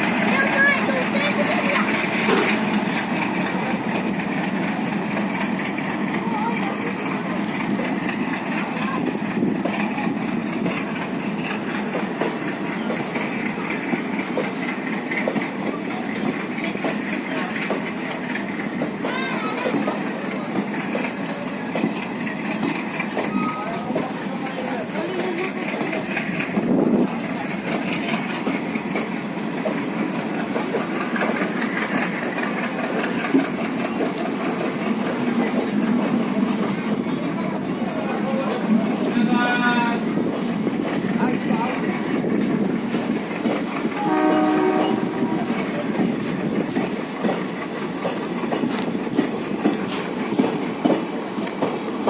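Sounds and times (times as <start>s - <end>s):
train wheels rumbling on rails: 0.0s - 52.0s
wheels clicking over rail joints: 0.0s - 52.0s.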